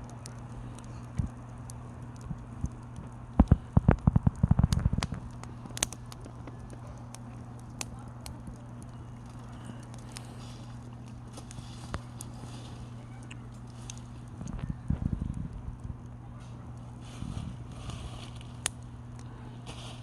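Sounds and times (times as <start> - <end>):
firewood crackling and popping: 0.0 - 20.0
steady low hum: 0.0 - 20.0.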